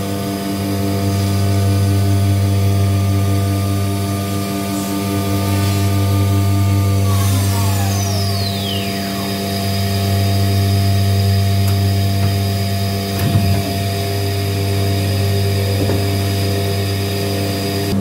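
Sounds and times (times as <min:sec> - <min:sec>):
cnc router humming: 0:00.0 - 0:18.0
spindle whine winding down: 0:00.0 - 0:18.0.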